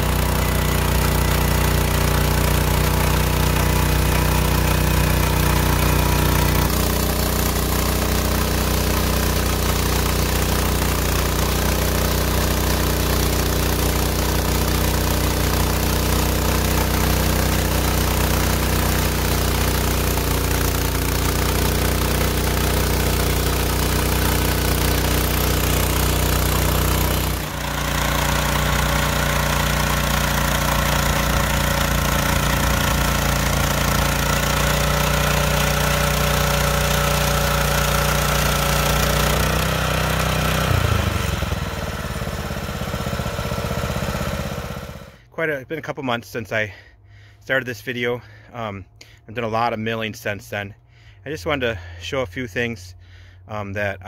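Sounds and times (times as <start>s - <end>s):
small gasoline engine running: 0.0s - 45.4s
sawmill sawing a log: 0.0s - 45.6s.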